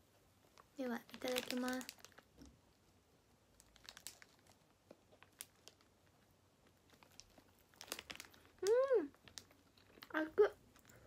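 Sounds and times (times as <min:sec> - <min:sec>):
soft eating sounds: 0:00.5 - 0:11.0
snack wrapper crinkling: 0:00.6 - 0:02.6, 0:03.5 - 0:11.0.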